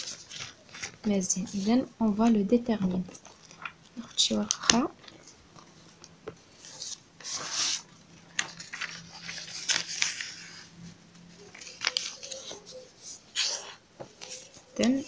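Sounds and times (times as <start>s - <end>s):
paper crackles: 0.0s - 15.0s
paper rustling: 0.0s - 15.0s.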